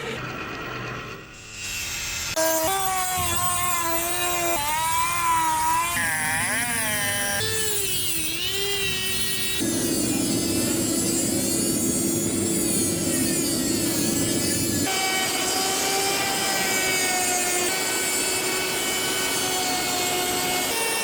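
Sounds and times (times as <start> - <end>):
power tool grinding metal: 1.1 - 21.0.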